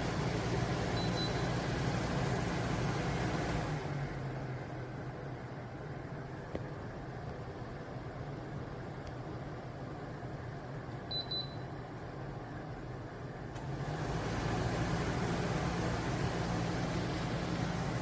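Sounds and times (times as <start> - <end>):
air conditioner fan running: 0.0 - 18.0.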